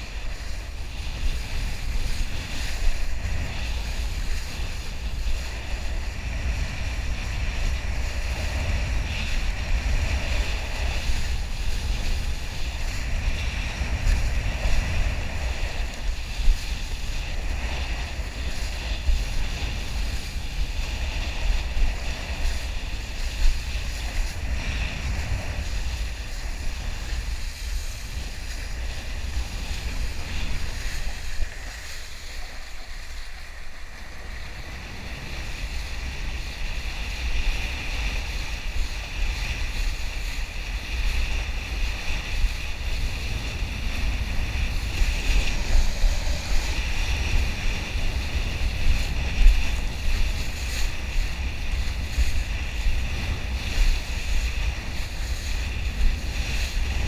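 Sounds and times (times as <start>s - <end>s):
board hissing across choppy water: 0.0s - 57.0s
wind rumbling on microphone: 0.0s - 57.0s.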